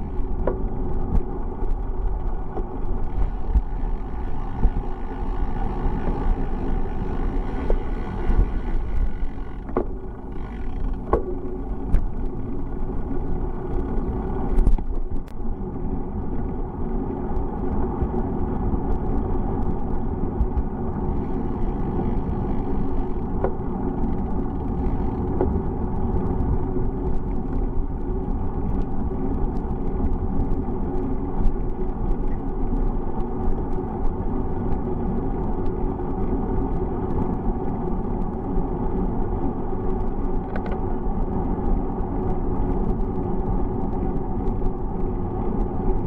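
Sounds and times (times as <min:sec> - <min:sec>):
bicycle clicks and rattles: 0:00.0 - 0:46.0
bicycle rumble on road: 0:00.0 - 0:46.0.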